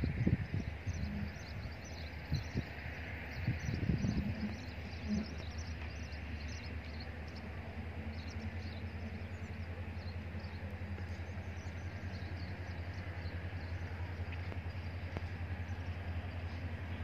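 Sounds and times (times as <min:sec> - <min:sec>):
distant diesel locomotive rumble: 0:00.0 - 0:17.0
small birds chirping: 0:00.0 - 0:17.0.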